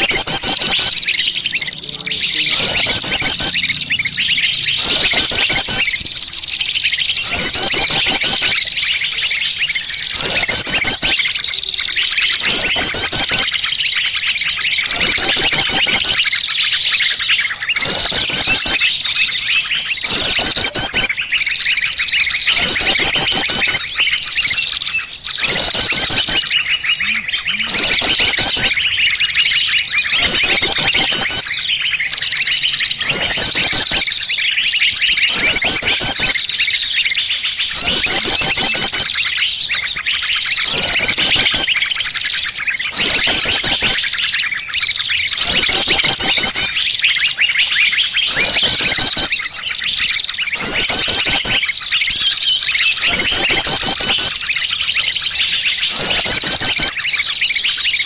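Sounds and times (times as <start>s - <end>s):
fast bird trill: 0.0s - 58.0s
songbirds chirping and trilling: 0.0s - 58.0s.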